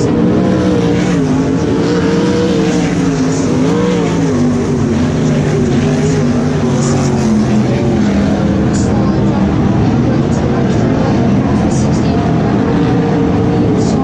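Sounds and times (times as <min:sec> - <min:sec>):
race car engines revving past: 0:00.0 - 0:14.0.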